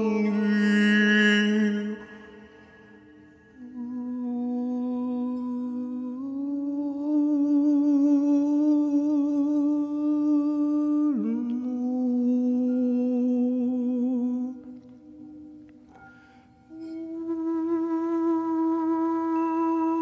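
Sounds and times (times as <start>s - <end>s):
hummed vocal tones: 0.0s - 15.4s, 16.7s - 20.0s.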